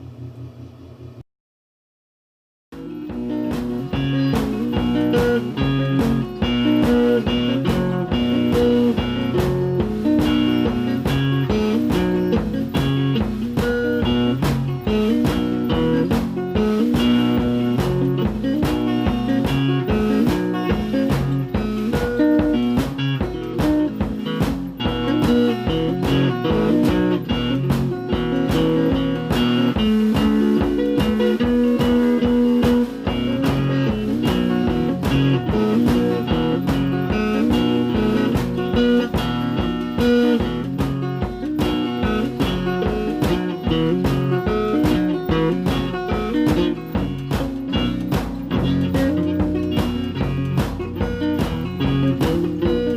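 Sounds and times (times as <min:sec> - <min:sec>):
guitar music with steady beat: 0:02.7 - 0:52.9.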